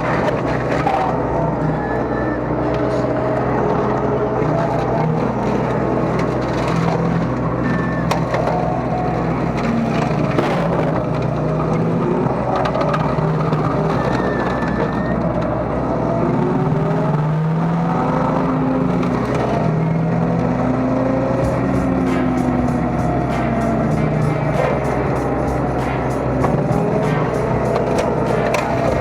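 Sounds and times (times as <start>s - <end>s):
brush cracking and snapping: 0.0s - 29.0s
excavator engine and hydraulics: 0.0s - 29.0s.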